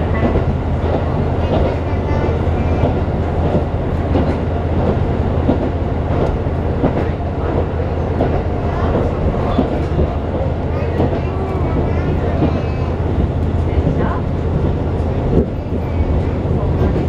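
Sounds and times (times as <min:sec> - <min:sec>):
train engine drone: 0:00.0 - 0:17.0
wheels rumbling on rail: 0:00.0 - 0:17.0.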